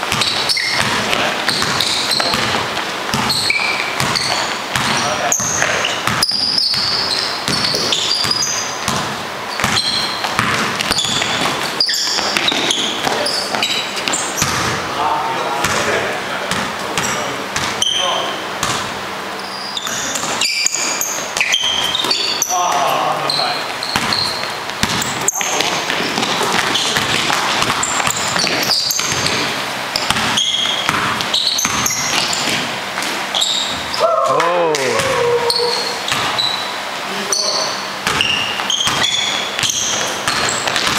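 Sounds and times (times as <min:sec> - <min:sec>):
basketball bouncing on gym floor: 0:00.0 - 0:14.9, 0:15.6 - 0:19.1, 0:19.8 - 0:40.9
sneaker squeaks: 0:00.0 - 0:40.9.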